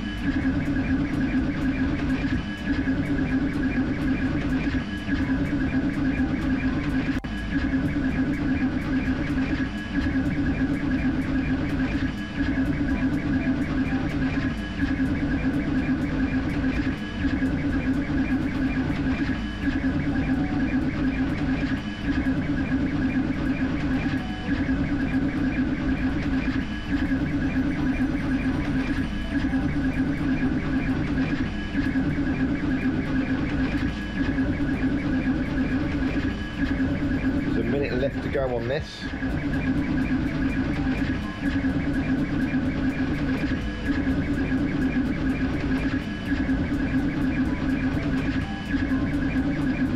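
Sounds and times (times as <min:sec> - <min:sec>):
motor whine: 0:00.0 - 0:49.9.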